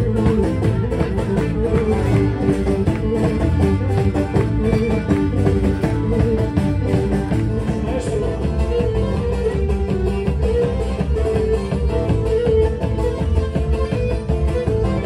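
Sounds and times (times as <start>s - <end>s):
folk dance music with plucked strings: 0.0s - 15.0s.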